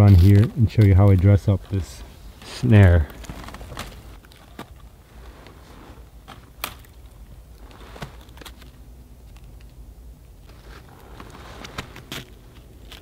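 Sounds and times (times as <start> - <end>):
twigs snapping and crackling: 0.0 - 1.8, 2.4 - 5.6, 6.2 - 13.0
low steady rumble: 0.0 - 13.0.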